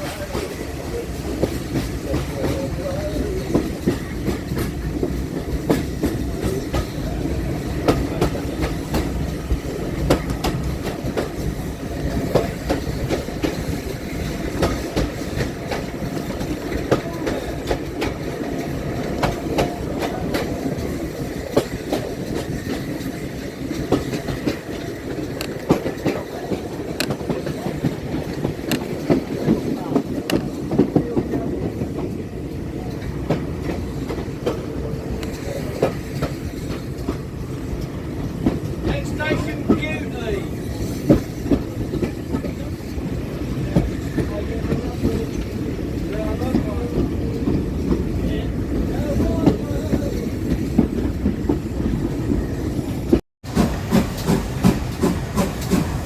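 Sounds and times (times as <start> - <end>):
train rumbling on rails: 0.0 - 56.0
wheels clicking over track: 0.0 - 56.0.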